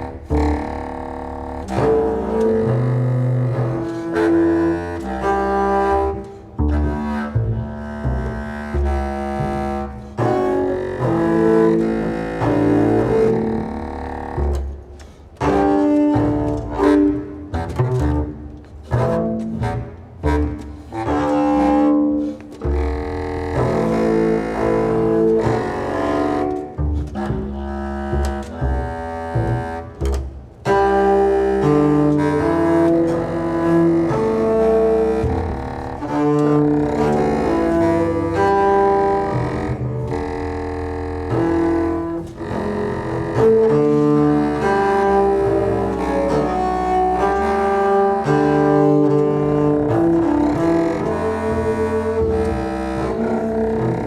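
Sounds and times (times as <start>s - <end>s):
clarinet: 0.0s - 54.0s
double bass: 0.0s - 54.0s.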